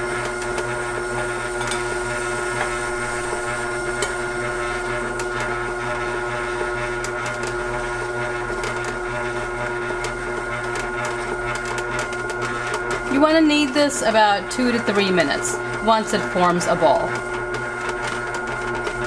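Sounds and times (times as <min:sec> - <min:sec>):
grinder motor hum: 0:00.0 - 0:19.0.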